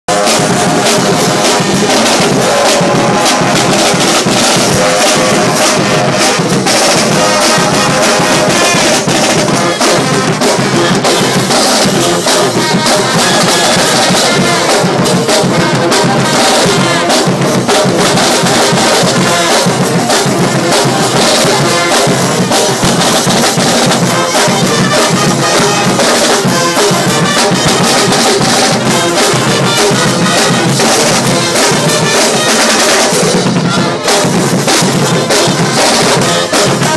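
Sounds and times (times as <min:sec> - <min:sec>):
brass band playing: 0:00.0 - 0:36.9
drums keeping a steady beat: 0:00.1 - 0:36.9.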